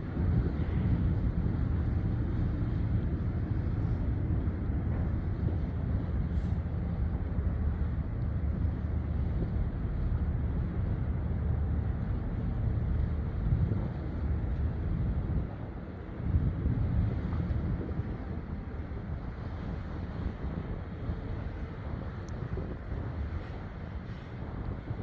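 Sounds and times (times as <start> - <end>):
ship engines rumbling: 0.0 - 25.0
wind buffeting microphone: 0.0 - 25.0.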